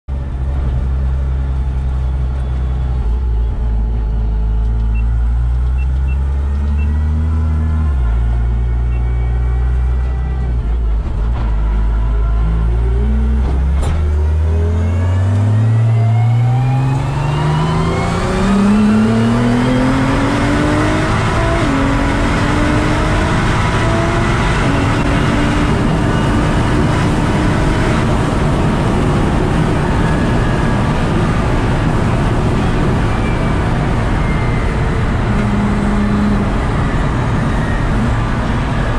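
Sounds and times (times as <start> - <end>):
car engine accelerating: 0.1 - 38.9.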